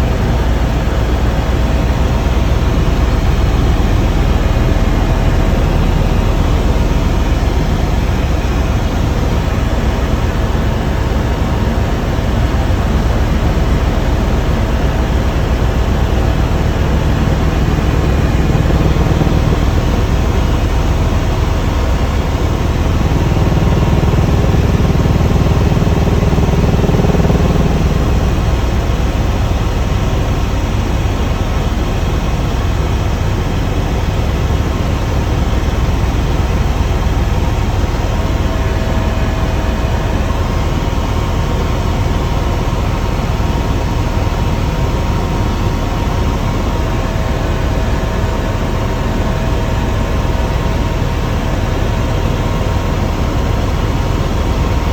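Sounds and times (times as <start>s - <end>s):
helicopter rotor and engine noise: 0.0s - 54.9s.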